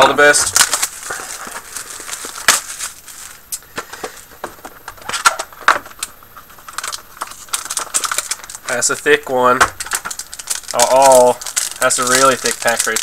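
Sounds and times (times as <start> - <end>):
card wrapper crackling: 0.2 - 9.2, 9.8 - 13.0.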